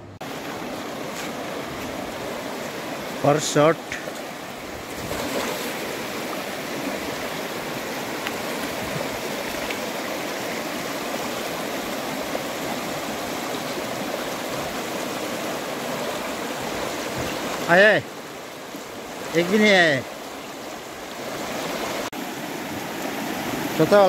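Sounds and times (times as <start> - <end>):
river rushing over rocks: 0.2 - 24.0.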